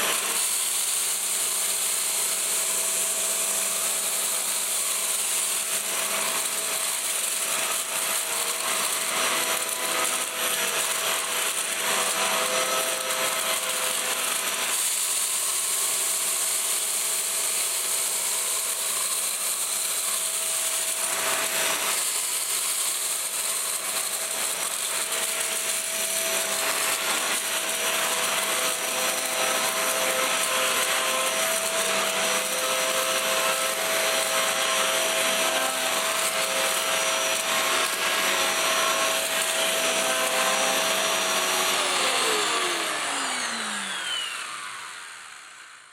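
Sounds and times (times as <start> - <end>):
vacuum scratching over floor: 0.0 - 45.6
vacuum cleaner running: 0.0 - 45.9.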